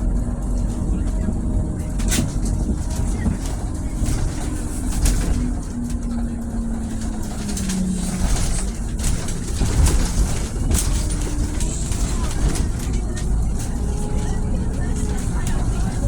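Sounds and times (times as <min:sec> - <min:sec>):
bus engine rumbling: 0:00.0 - 0:16.0
clicks and rattles: 0:00.1 - 0:16.0.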